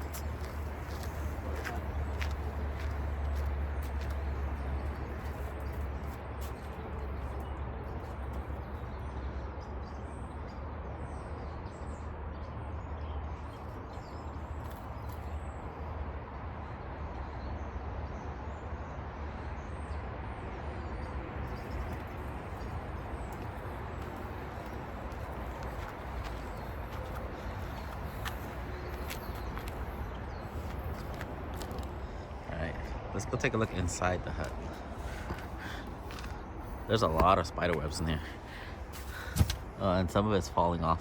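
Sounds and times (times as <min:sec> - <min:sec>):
small birds chirping: 0:00.0 - 0:15.7, 0:19.8 - 0:41.0.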